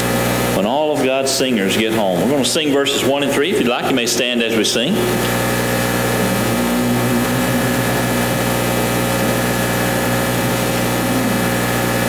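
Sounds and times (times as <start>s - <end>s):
droning hum: 0.0s - 12.0s.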